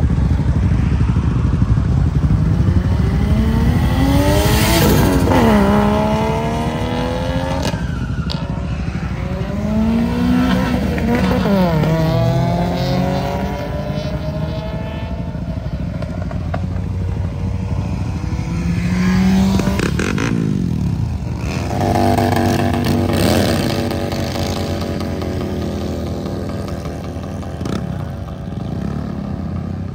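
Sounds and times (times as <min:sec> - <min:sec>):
cars accelerating past: 0:00.0 - 0:16.1, 0:17.3 - 0:29.4.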